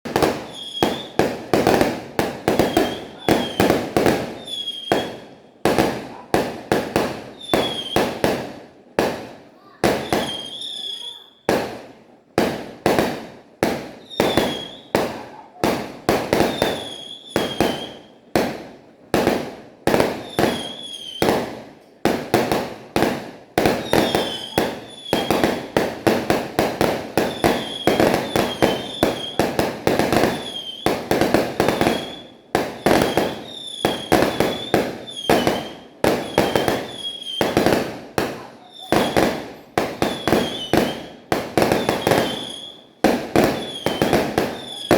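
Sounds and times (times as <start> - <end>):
fireworks bangs: 0.0 - 44.9
high firework whistles: 0.1 - 6.0, 7.0 - 8.4, 9.8 - 11.6, 14.0 - 18.5, 19.2 - 21.6, 22.4 - 44.9.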